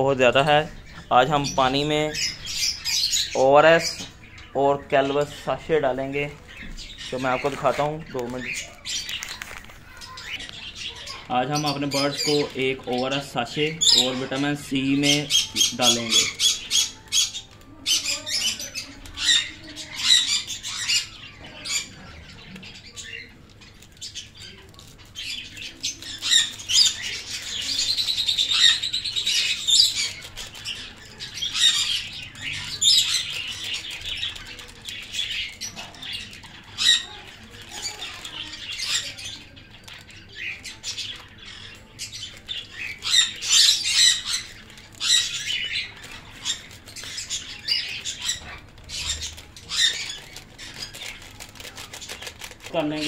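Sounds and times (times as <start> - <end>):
birds chirping and squawking: 0.0 - 53.0.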